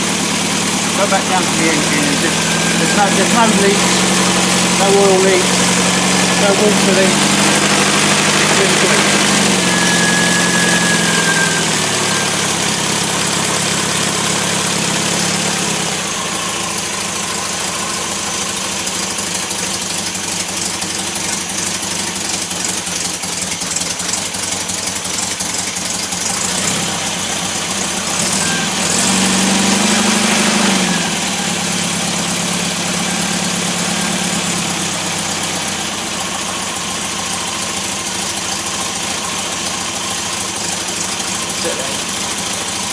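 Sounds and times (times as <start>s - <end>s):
engine running at tick-over: 0.0s - 42.9s.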